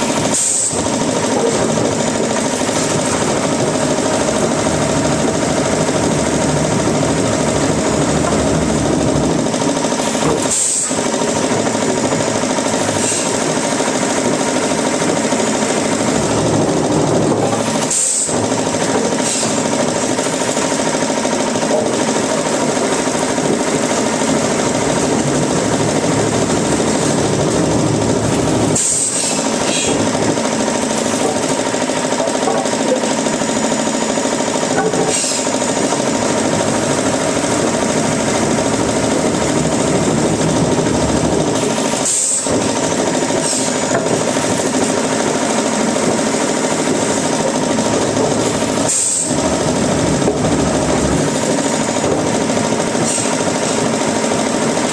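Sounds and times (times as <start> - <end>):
woodworking machinery running: 0.0 - 54.9.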